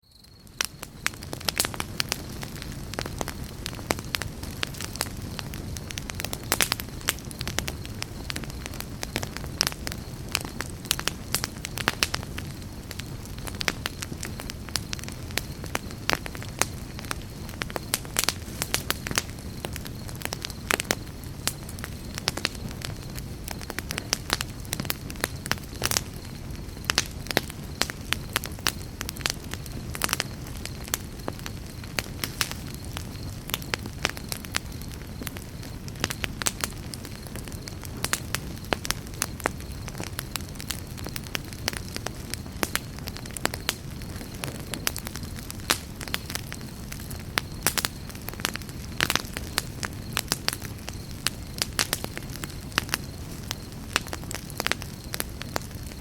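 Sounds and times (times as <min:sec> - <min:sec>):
campfire crackling and popping: 0:00.1 - 0:56.0.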